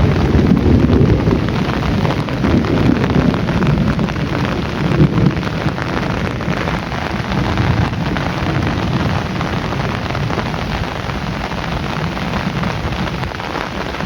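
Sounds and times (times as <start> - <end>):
deep rumble: 0.0 - 14.0
heavy rain pouring: 0.0 - 14.0.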